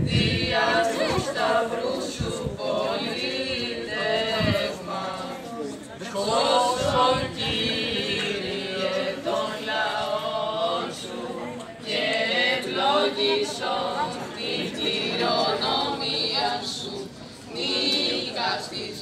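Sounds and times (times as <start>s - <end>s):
voices chanting a hymn: 0.0s - 19.0s.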